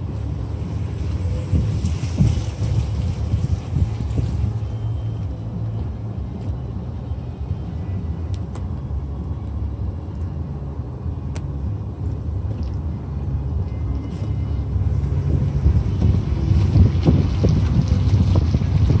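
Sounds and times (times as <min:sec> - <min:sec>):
car driving on wet pavement: 0:00.0 - 0:19.0.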